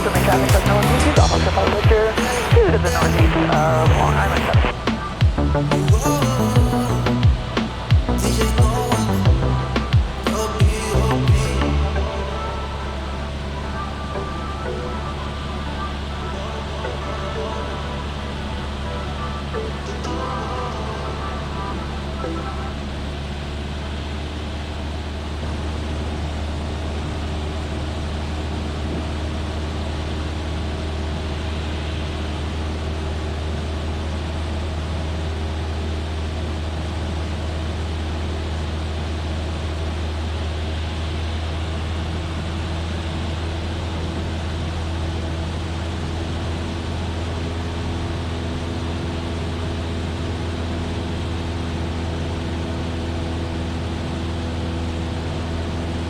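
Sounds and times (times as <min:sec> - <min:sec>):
airplane engine droning: 0:00.0 - 0:56.0.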